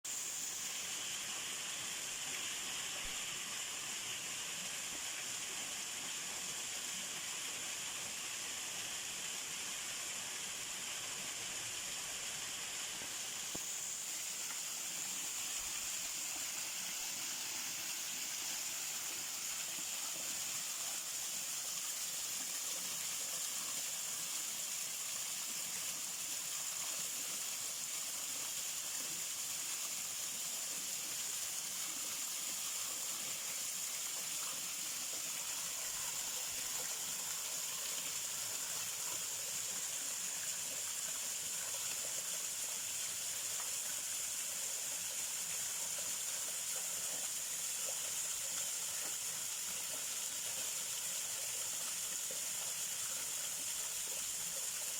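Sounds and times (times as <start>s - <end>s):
high-pitched hiss: 0.1s - 54.9s.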